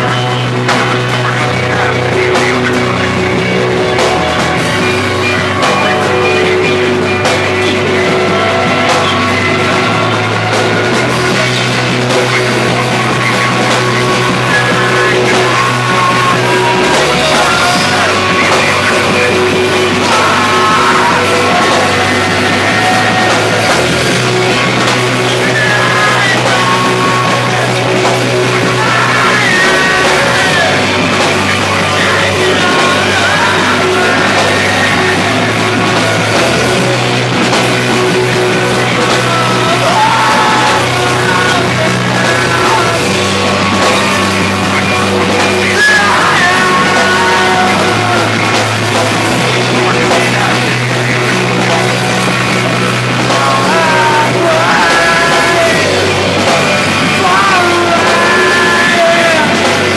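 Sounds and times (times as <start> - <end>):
bass guitar line: 0.0 - 59.9
drums with cymbals: 0.0 - 59.9
electric guitars: 0.0 - 59.9
yelled vocals: 0.0 - 59.9.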